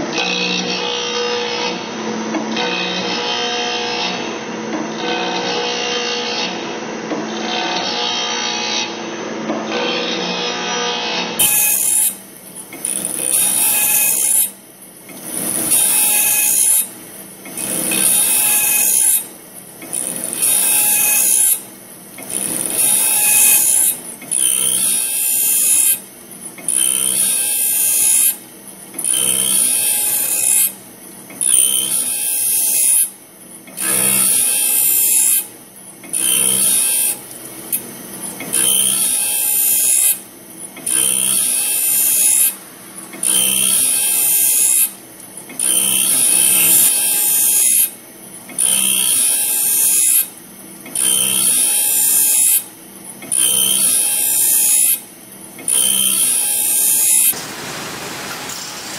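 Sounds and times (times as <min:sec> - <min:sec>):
high grinding whine: 0:00.0 - 0:57.4.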